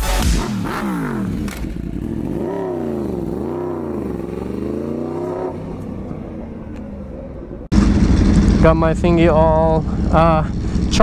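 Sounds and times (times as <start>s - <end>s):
vehicle engine revving: 0.2s - 11.0s.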